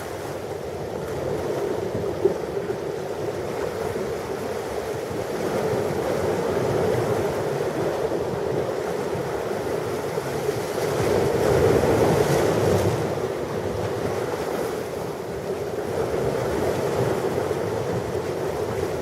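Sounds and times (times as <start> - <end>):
ocean waves breaking on shore: 0.0 - 19.0.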